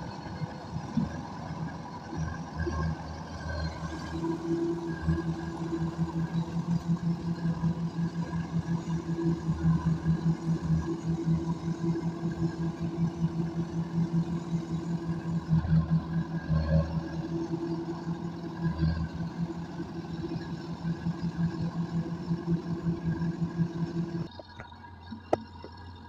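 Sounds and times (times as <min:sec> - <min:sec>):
combine harvester engine hum: 0:00.0 - 0:26.0.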